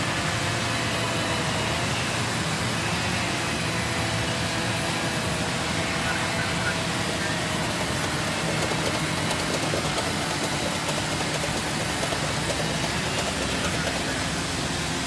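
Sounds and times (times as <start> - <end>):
sawmill machinery drone: 0.0 - 15.0.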